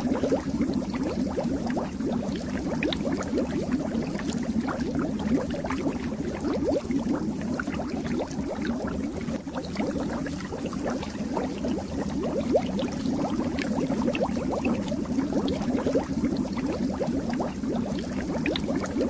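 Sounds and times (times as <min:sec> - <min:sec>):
fish tank water bubbling: 0:00.0 - 0:19.0.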